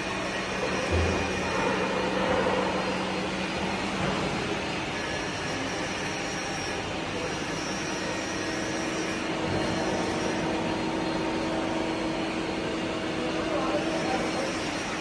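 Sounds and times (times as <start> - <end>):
shop machinery whirring: 0.0 - 15.0.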